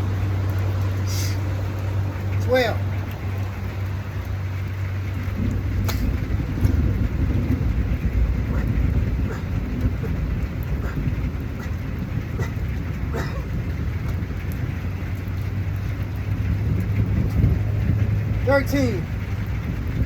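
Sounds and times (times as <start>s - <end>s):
low rumble: 0.0s - 20.0s
raindrop taps: 0.0s - 20.0s
steady rain: 0.0s - 20.0s.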